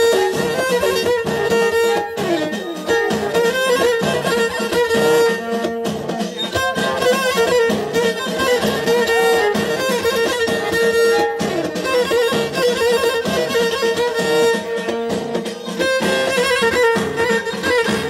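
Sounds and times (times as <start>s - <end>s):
frame drums beating: 0.0s - 18.0s
plucked lutes: 0.0s - 18.0s
violin melody: 0.0s - 18.0s.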